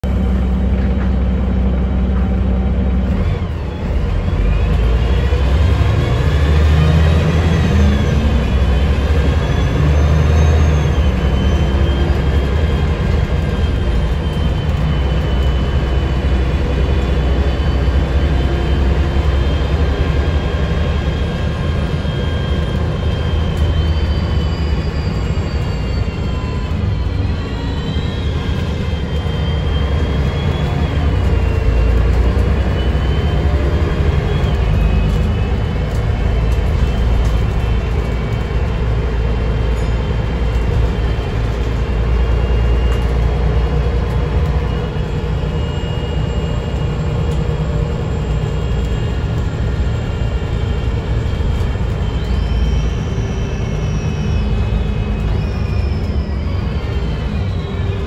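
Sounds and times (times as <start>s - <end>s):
bus engine rumble: 0.0s - 58.0s
high whining tones: 0.0s - 58.0s.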